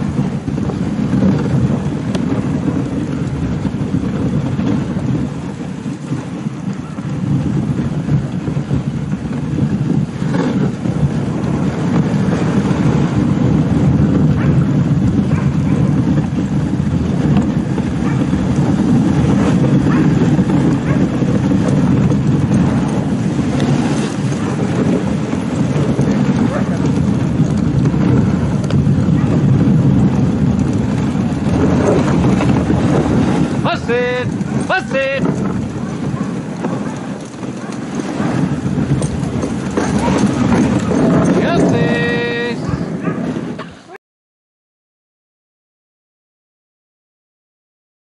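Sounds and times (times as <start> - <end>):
sled runners scraping on snow: 0.0 - 44.0
wind buffeting microphone: 0.0 - 44.0.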